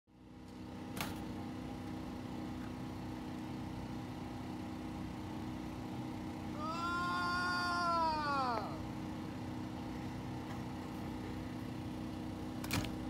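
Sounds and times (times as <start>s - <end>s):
engine idling hum: 0.1s - 13.0s.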